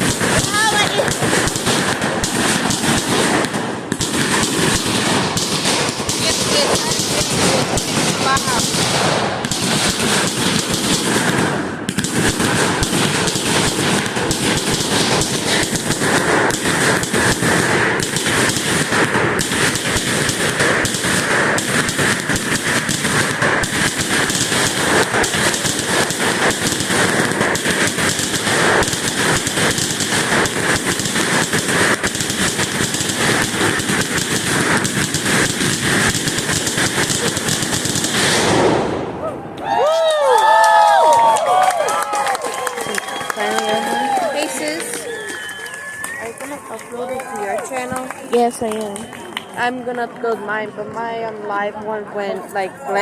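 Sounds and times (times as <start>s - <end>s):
fireworks popping and crackling: 0.0s - 39.2s, 39.8s - 53.0s.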